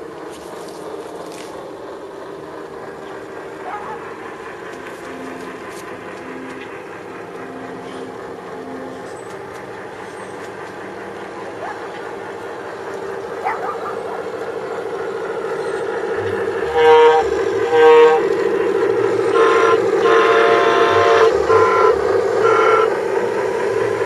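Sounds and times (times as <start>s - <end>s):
model train diesel engine sound: 0.0s - 24.0s.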